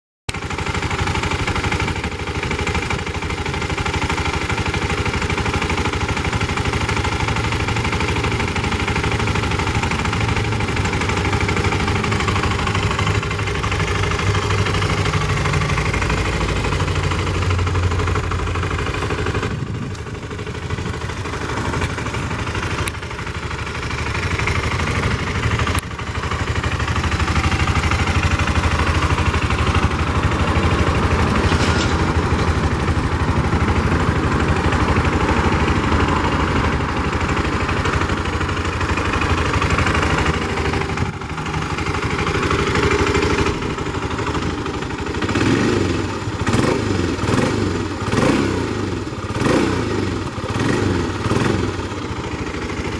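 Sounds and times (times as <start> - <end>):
motorcycle engine idling: 0.3 - 52.9.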